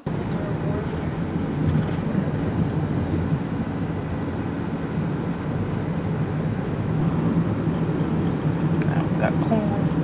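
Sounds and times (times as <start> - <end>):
car cabin road and engine drone: 0.0 - 10.0.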